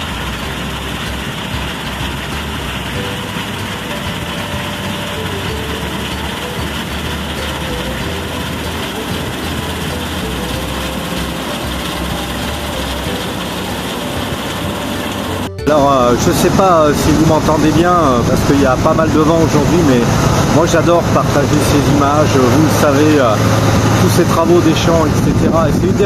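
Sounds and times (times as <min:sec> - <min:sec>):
farm machinery engine running: 0:00.0 - 0:26.0.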